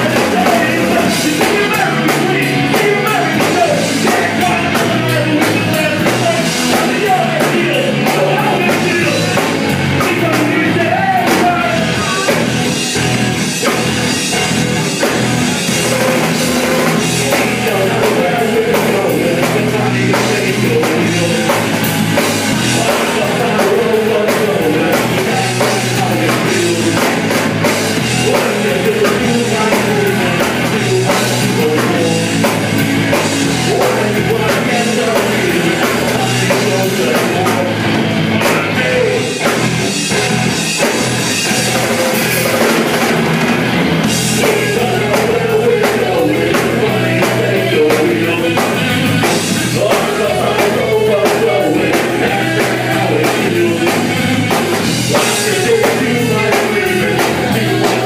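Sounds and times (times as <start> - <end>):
person singing into a microphone: 0.0 - 43.1, 44.0 - 58.0
drum kit: 0.0 - 58.0
electric guitar: 0.0 - 58.0.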